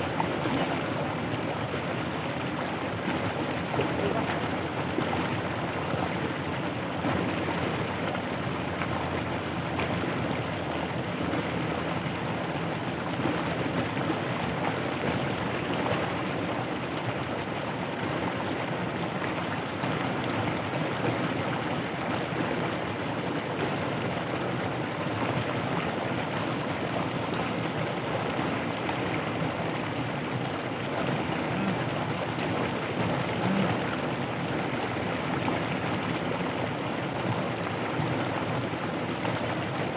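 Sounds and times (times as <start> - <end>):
rushing floodwater: 0.0 - 39.9.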